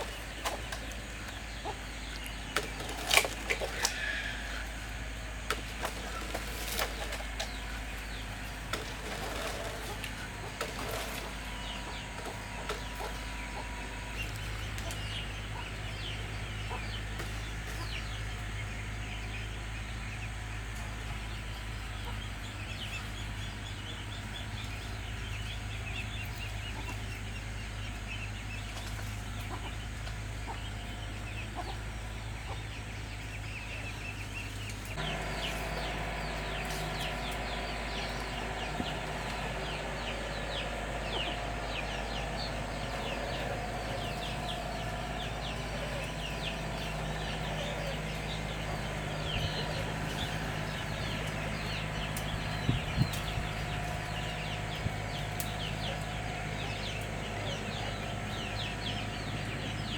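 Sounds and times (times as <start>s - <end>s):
chickens clucking: 0.0s - 59.9s
steady low hum: 0.0s - 59.9s.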